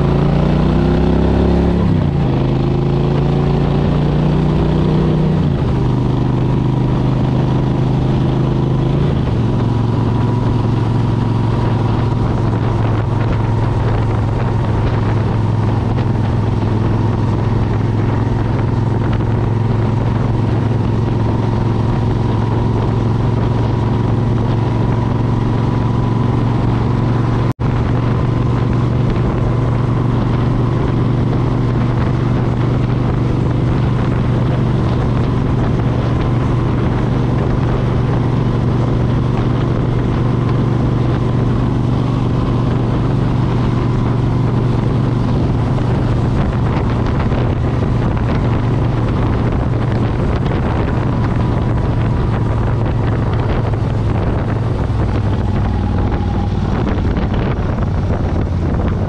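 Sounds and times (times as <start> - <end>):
motorcycle engine riding: 0.0 - 59.0.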